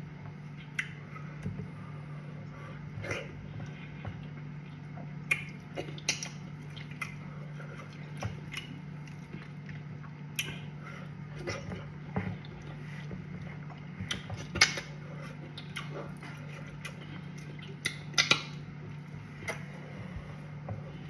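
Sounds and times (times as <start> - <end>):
steady low hum: 0.0 - 21.0
chewing: 3.0 - 21.0.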